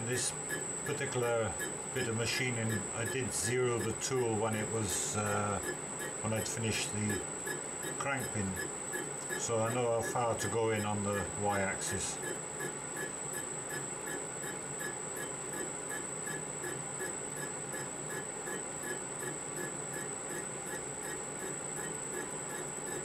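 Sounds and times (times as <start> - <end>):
metal lathe whining: 0.0 - 23.0.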